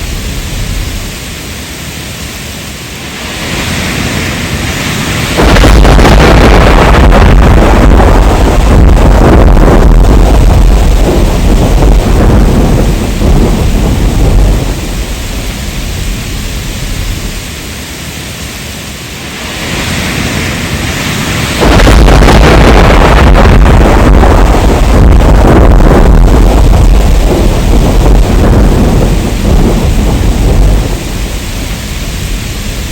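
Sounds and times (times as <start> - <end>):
rolling thunder rumble: 0.0 - 1.4, 3.0 - 32.9
heavy rain: 0.0 - 32.9.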